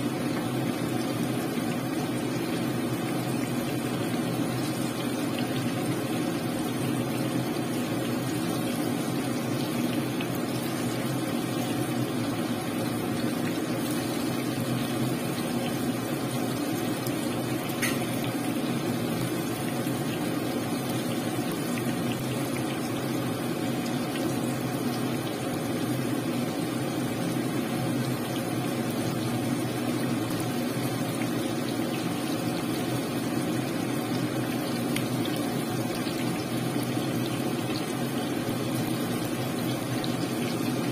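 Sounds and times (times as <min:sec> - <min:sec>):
chicken deep-frying in oil: 0:00.0 - 0:40.9.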